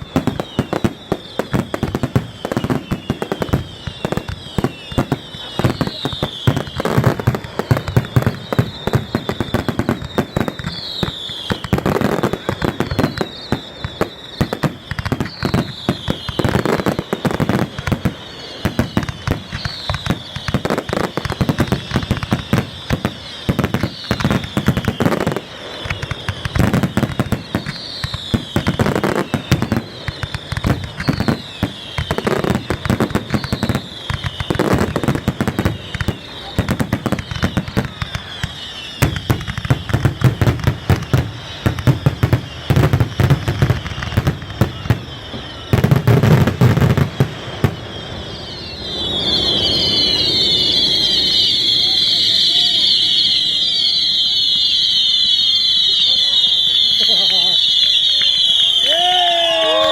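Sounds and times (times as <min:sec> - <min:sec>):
falling firework whistles: 0:00.0 - 0:59.9
fireworks bangs and crackles: 0:00.0 - 0:59.9.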